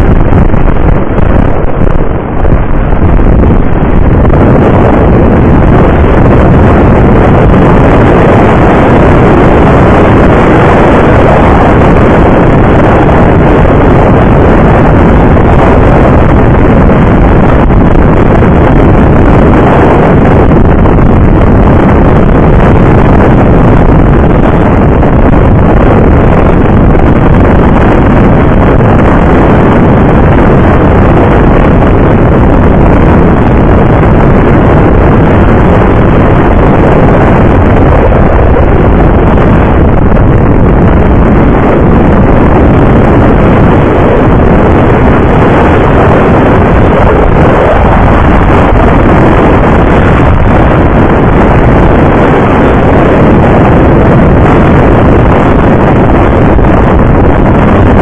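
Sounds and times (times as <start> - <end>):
road noise: 0.0 - 58.0
wind rush over microphone: 0.0 - 58.0.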